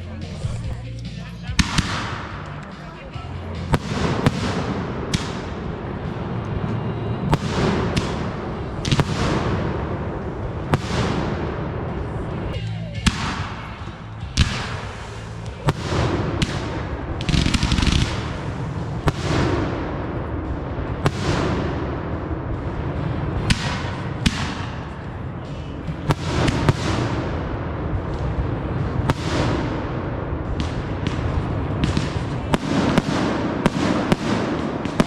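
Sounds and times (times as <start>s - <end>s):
fireworks crackling: 0.0s - 35.0s
fireworks bangs: 1.4s - 35.0s.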